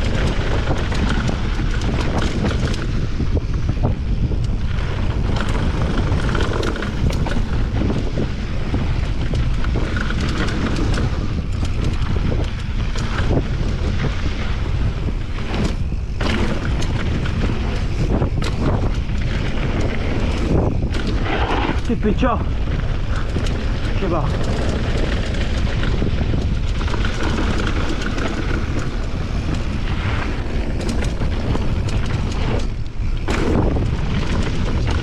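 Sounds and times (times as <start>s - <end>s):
bike clicks and knocks: 0.0s - 22.0s, 22.6s - 35.0s
bike tyre noise: 0.0s - 35.0s
wind rushing over microphone: 0.0s - 35.0s.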